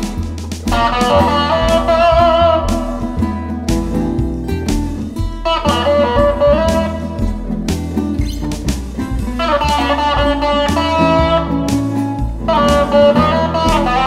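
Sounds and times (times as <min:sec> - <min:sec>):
bass line: 0:00.0 - 0:14.0
lead guitar melody: 0:00.0 - 0:14.0.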